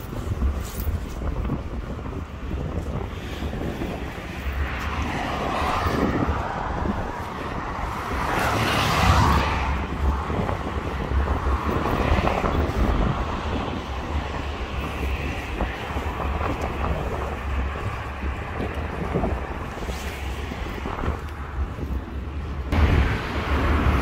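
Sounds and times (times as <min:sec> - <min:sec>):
outdoor rushing noise: 0:00.0 - 0:24.0
wind rumbling on microphone: 0:00.0 - 0:24.0.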